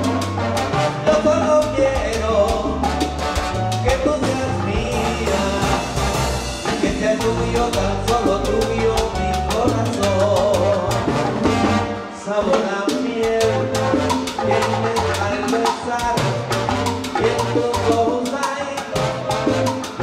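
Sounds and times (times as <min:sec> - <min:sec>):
bass line: 0:00.0 - 0:20.0
latin percussion: 0:00.0 - 0:20.0
live salsa band playing: 0:00.0 - 0:20.0.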